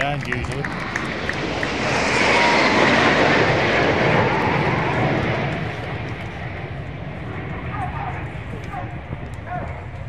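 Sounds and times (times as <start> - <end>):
high jet whine: 0.0 - 10.0
jets flying overhead: 0.0 - 10.0.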